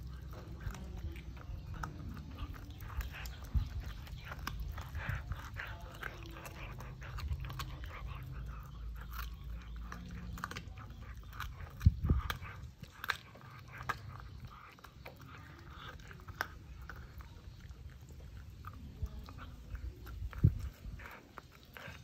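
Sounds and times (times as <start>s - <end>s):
dog chewing and crunching: 0.0s - 22.0s.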